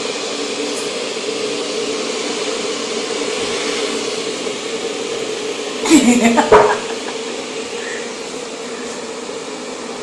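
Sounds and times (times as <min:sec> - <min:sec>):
extractor fan running: 0:00.0 - 0:10.0.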